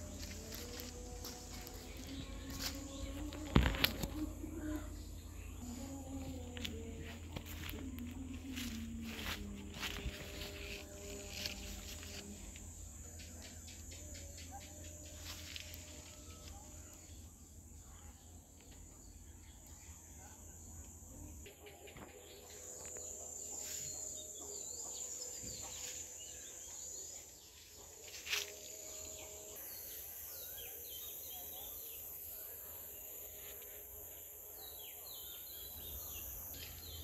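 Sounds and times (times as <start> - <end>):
insect drone: 0.0 - 37.0.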